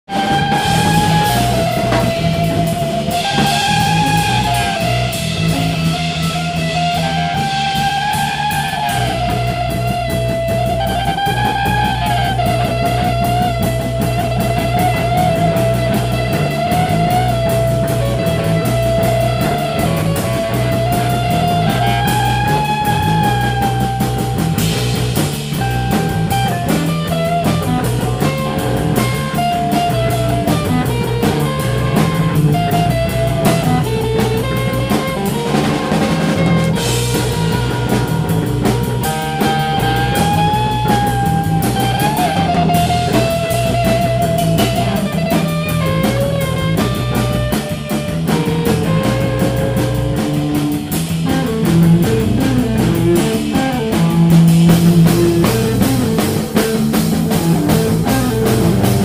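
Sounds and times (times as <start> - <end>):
bass line: 0.0 - 59.0
drums playing busy beat: 0.0 - 59.0
electric guitar lead notes bending: 0.0 - 59.0.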